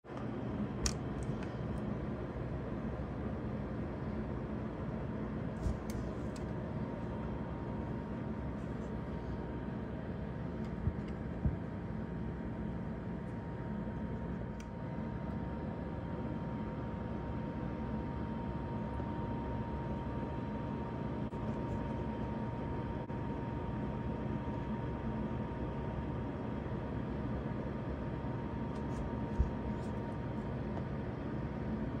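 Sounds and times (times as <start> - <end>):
faint steady hum: 0.1 - 32.0
low rumbling background noise: 0.1 - 32.0.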